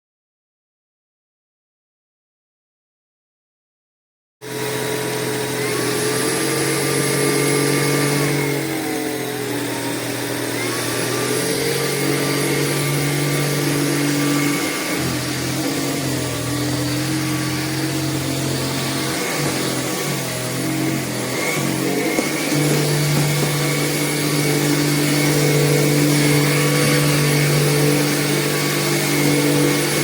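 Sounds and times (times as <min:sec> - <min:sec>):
vacuum cleaner motor whine: 0:04.4 - 0:30.0.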